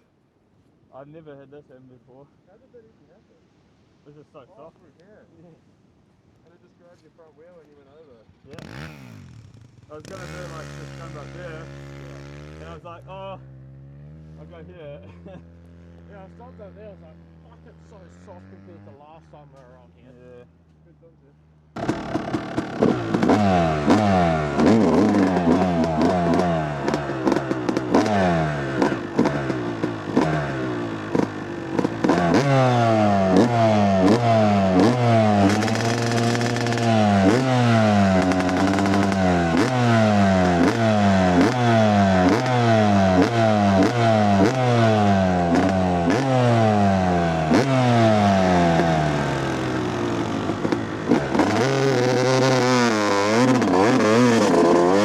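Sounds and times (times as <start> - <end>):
two-stroke dirt bike revving: 8.4 - 20.0, 21.4 - 55.0.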